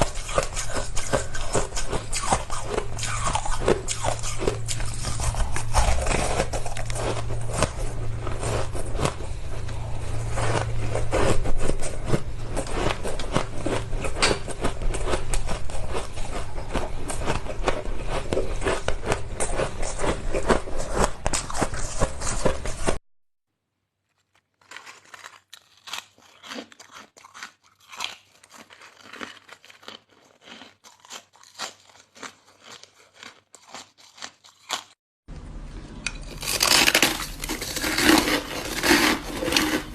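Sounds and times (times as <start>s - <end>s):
ice being chewed crunching: 0.0s - 23.0s, 24.2s - 35.0s, 36.1s - 39.9s.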